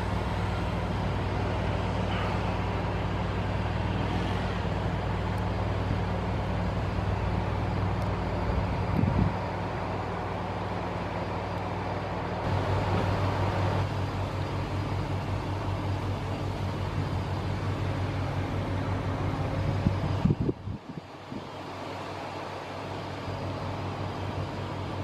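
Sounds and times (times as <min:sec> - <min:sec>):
diesel engines droning under load: 0:00.0 - 0:25.0.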